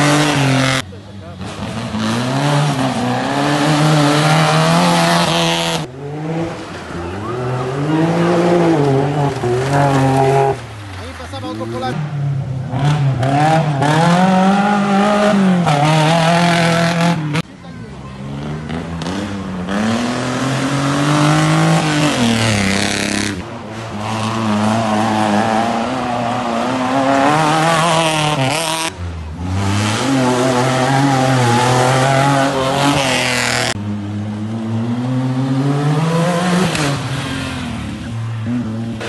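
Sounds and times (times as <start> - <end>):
buggy engine: 0.0 - 39.0
rally car engines revving: 0.0 - 39.0.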